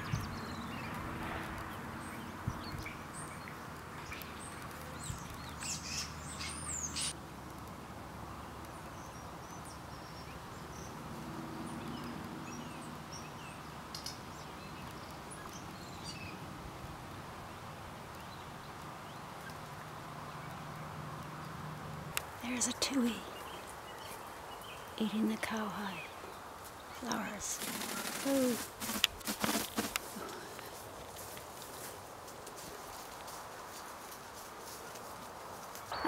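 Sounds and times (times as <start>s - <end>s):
birds chirping: 0.0s - 16.6s, 18.0s - 31.0s
steady background hiss: 1.8s - 36.0s.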